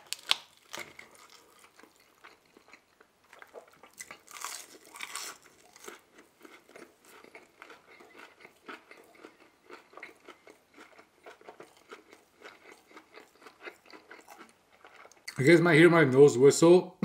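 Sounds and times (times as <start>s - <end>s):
chewing close to microphone: 0.0s - 15.4s
crunching bite of fried food: 0.0s - 15.4s.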